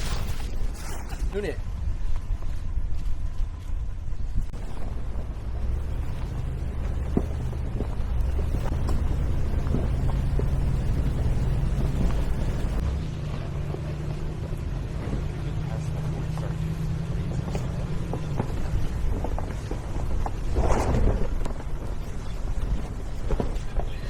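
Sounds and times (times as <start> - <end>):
suv engine running: 1.8 - 24.0.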